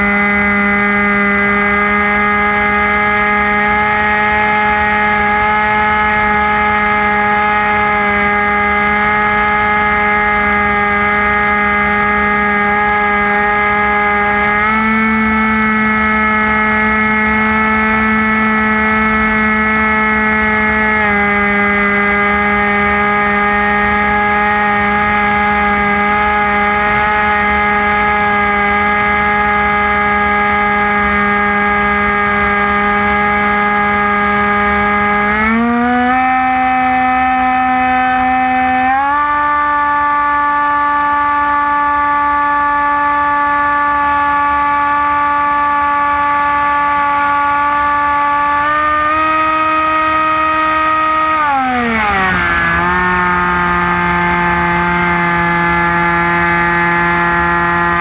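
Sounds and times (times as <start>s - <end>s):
electric motor propeller whine: 0.0s - 58.0s.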